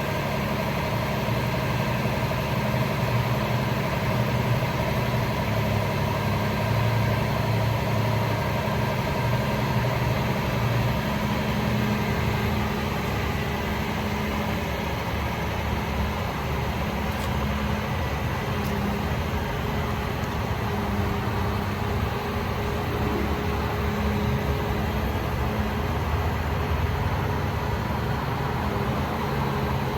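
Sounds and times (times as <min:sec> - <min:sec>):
truck diesel engine idling: 0:00.0 - 0:29.9.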